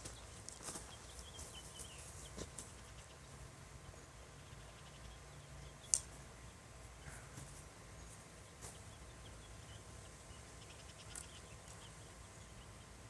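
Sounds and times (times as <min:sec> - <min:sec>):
faint background hiss and hum: 0:00.0 - 0:13.0.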